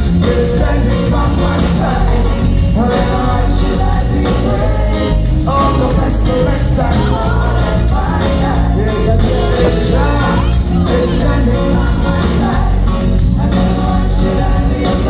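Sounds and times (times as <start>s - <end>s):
lead and backing vocals: 0.0s - 15.0s
live band playing: 0.0s - 15.0s.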